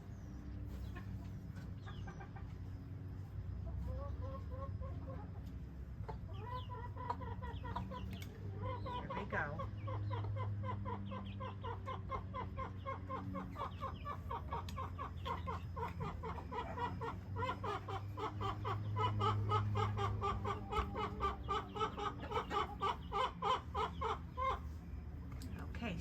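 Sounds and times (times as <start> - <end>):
hen clucking: 0.1 - 26.0.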